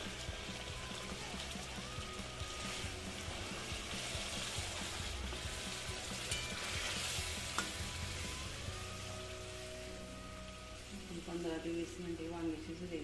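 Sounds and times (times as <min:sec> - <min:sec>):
steel spatula stirring: 0:00.0 - 0:12.0
gravy sizzling and bubbling: 0:00.0 - 0:13.0.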